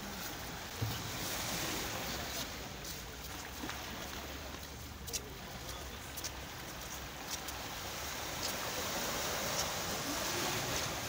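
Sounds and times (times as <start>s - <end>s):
boat rumbling under way: 0.0s - 11.0s
water noise: 0.0s - 11.0s.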